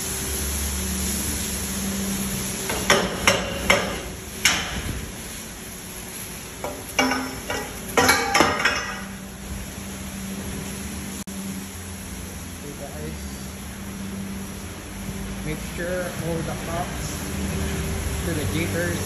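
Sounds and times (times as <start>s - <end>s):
milking plant hum: 0.0s - 19.0s.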